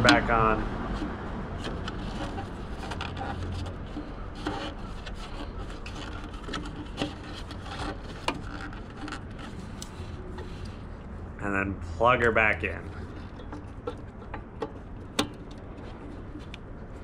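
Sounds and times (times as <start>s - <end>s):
rubbing and scraping: 0.0s - 11.2s, 12.4s - 17.0s.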